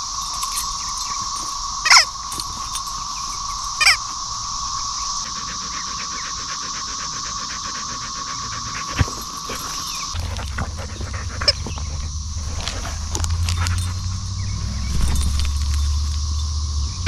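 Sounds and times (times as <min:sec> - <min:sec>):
insects buzzing: 0:00.0 - 0:17.0
low rumble: 0:00.8 - 0:17.0.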